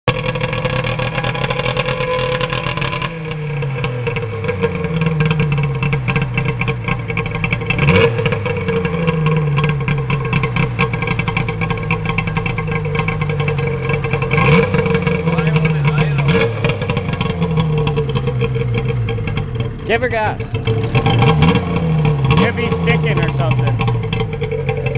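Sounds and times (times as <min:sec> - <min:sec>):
two-stroke engine running unevenly: 0:00.1 - 0:24.9.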